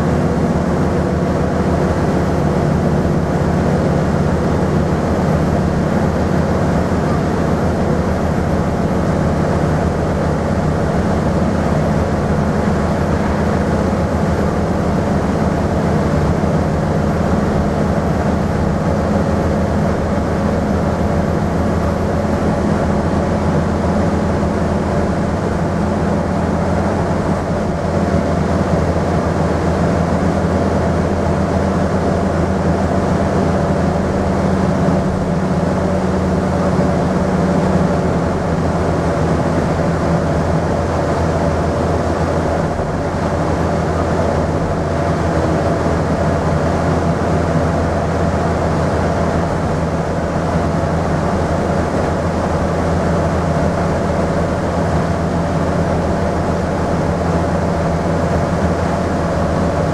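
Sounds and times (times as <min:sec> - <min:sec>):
bus diesel engine pulling: 0:00.0 - 0:59.9
road noise: 0:00.0 - 0:59.9.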